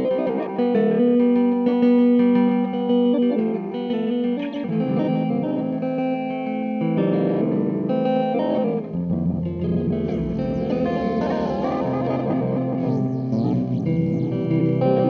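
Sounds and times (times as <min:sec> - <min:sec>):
electric guitar with granular delay: 0:00.0 - 0:15.0.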